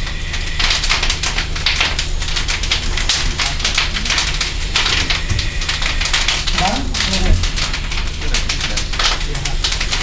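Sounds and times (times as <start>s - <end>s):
fire crackling and popping: 0.0s - 10.0s
low steady hum: 0.0s - 10.0s.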